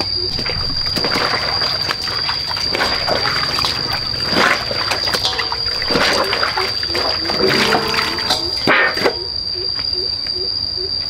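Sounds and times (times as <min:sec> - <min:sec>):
water splashing and sloshing: 0:00.0 - 0:09.3.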